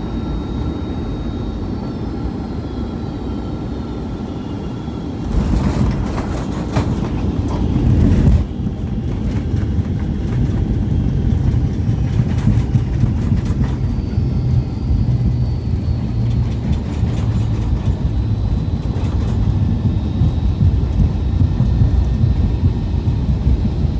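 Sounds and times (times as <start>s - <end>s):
jet engine noise: 0.0s - 23.9s
wheels rumbling on runway: 4.6s - 23.9s.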